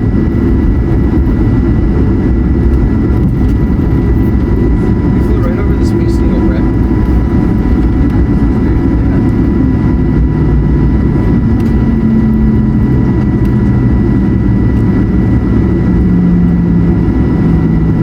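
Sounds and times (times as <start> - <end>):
aircraft cabin rumble: 0.0 - 18.0
thin steady engine whine: 0.0 - 18.0.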